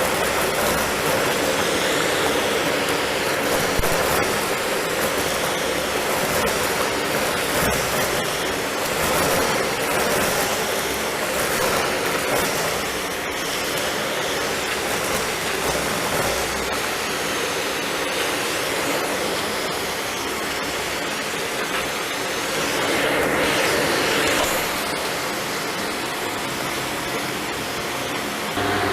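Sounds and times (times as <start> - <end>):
debris clicks in vacuum: 0.0 - 28.6
vacuum cleaner running: 0.0 - 28.9.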